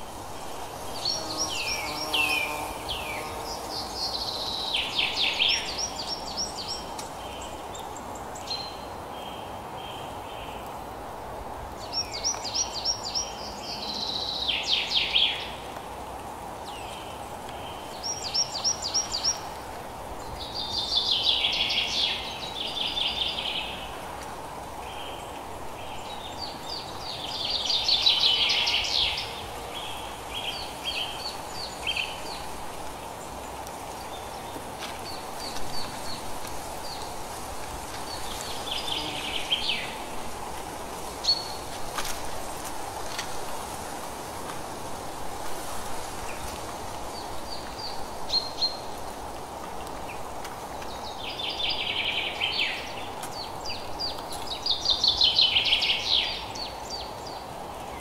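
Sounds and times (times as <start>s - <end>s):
songbird singing: 0.0s - 11.0s, 11.7s - 15.9s, 16.6s - 43.8s, 45.8s - 58.0s
steady background hiss: 0.0s - 58.0s.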